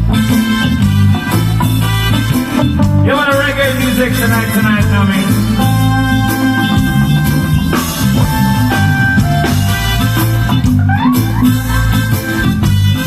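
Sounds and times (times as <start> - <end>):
heavy bass line: 0.0 - 13.0
reggae band playing: 0.0 - 13.0
sliding guitar notes: 0.0 - 13.0.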